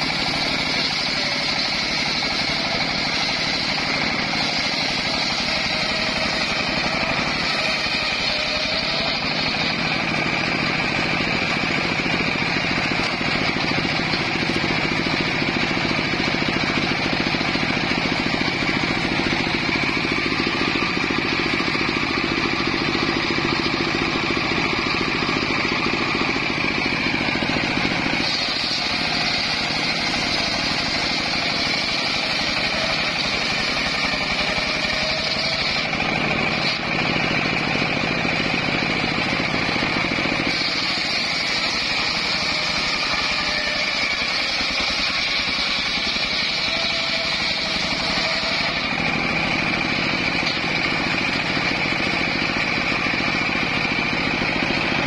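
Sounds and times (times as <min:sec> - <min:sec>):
circular sawmill whining: 0:00.0 - 0:55.0
saw blade cutting timber: 0:00.0 - 0:55.0.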